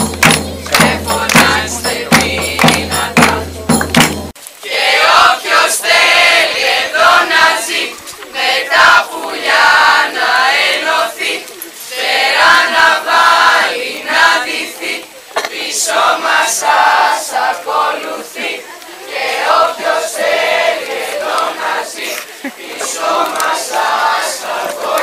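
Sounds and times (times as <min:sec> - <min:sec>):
chorus singing: 0:00.0 - 0:25.0.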